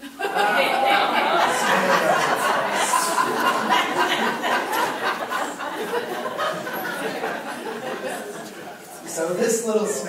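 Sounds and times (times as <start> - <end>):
group laughing: 0.0 - 9.0
voices: 0.0 - 10.0.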